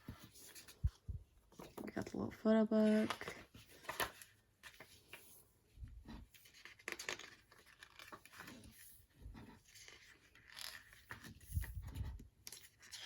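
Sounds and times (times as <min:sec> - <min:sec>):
paper and plastic rustling: 0:00.0 - 0:05.4, 0:06.0 - 0:13.0.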